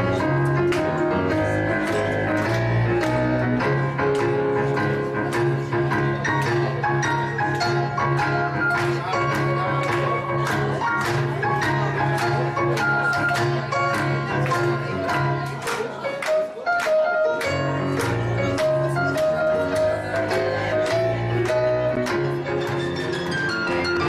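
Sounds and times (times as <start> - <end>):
instrumental music with steady beat: 0.0 - 24.0.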